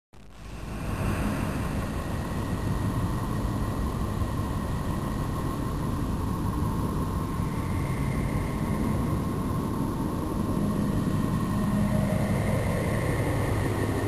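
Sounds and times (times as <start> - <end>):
deep rumbling drone: 0.2 - 14.0.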